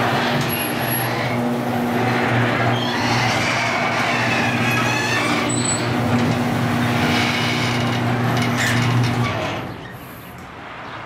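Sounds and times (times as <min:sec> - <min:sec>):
garage door rattling: 0:00.0 - 0:09.9
garage door motor hum: 0:00.0 - 0:10.0.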